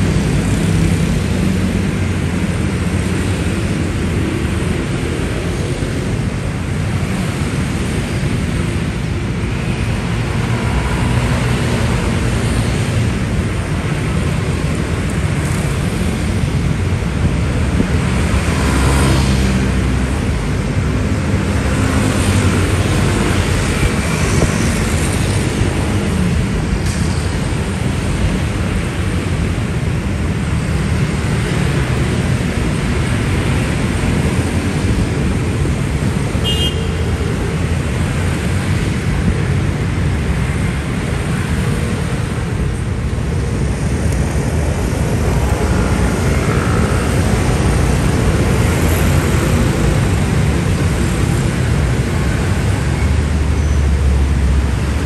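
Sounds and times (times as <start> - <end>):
dense road traffic: 0.0 - 55.0.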